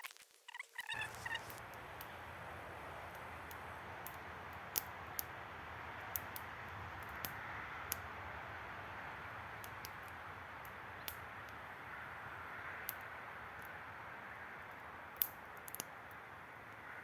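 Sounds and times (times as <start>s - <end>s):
campfire crackling: 0.0s - 17.0s
fire popping: 0.0s - 17.0s.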